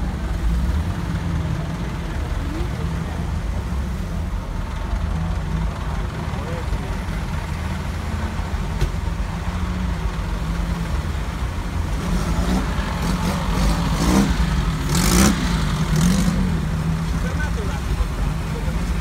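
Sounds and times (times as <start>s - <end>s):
car engines idling: 0.0s - 19.0s.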